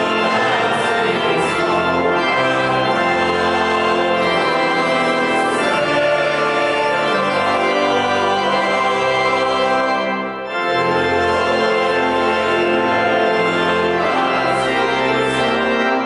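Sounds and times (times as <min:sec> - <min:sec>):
organ playing hymn chords: 0:00.0 - 0:16.0.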